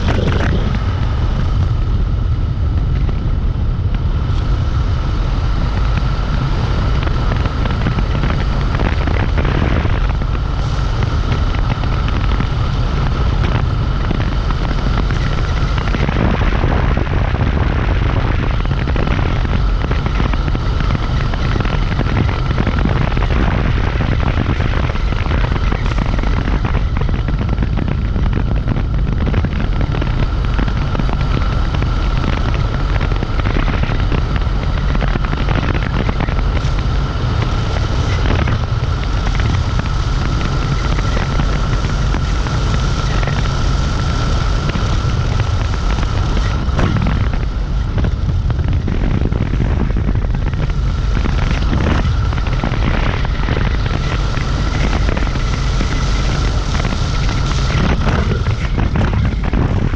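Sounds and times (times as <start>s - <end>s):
electric scooter whine: 0.0s - 59.9s
wind rumble on microphone: 0.0s - 59.9s.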